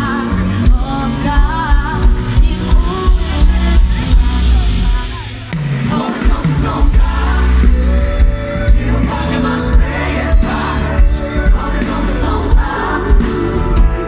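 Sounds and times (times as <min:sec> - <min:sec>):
heavy bass: 0:00.0 - 0:14.0
singers in harmony: 0:00.0 - 0:14.0
steady drum beat: 0:00.4 - 0:14.0.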